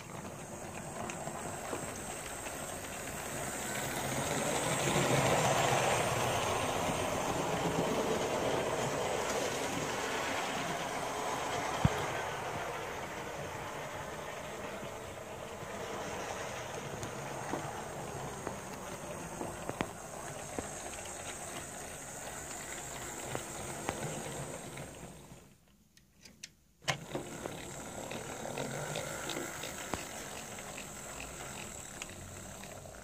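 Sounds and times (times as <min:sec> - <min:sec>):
model train motor whirring: 0:00.0 - 0:25.6, 0:26.8 - 0:33.0
wheels clicking over rail joints: 0:00.0 - 0:25.6, 0:26.4 - 0:33.0.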